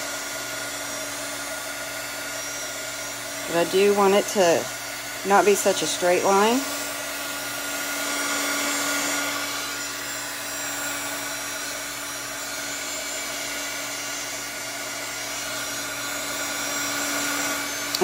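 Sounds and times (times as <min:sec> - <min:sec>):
heat gun blowing: 0:00.0 - 0:18.0.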